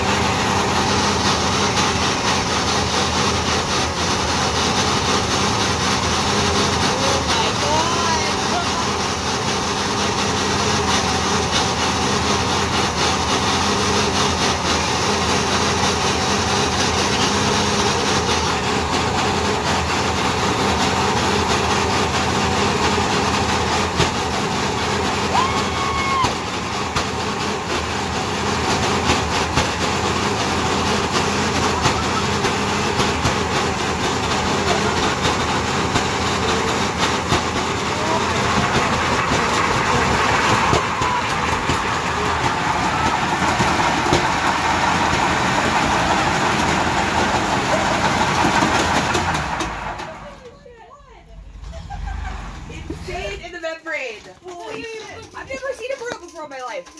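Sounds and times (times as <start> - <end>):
engine at high revs: 0.0 - 50.5, 51.2 - 53.6
tire spinning in a burnout: 0.0 - 53.6.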